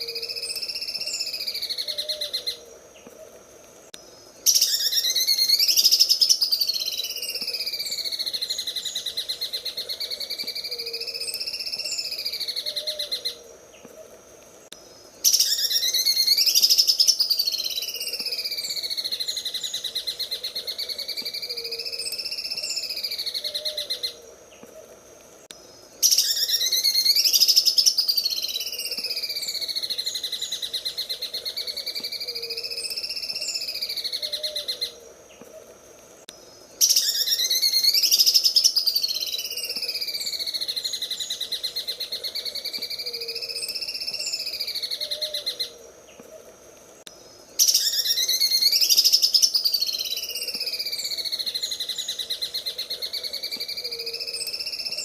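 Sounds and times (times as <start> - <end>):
bird singing rapid rattling song: 0.0 - 2.6, 3.9 - 13.9, 14.7 - 24.2, 25.5 - 35.5, 36.2 - 45.7, 47.0 - 55.0.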